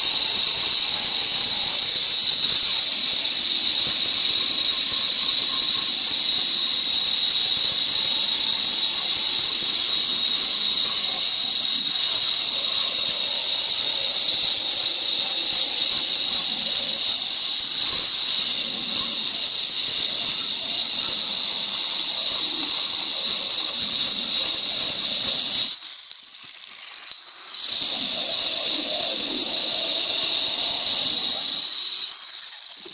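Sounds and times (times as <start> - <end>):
electric saw cutting stone: 0.0 - 25.8, 27.0 - 32.9.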